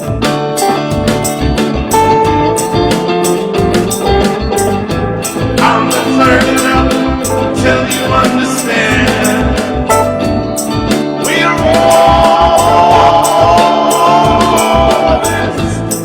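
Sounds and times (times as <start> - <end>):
band playing: 0.0 - 16.0
steady drum beat: 0.0 - 16.0.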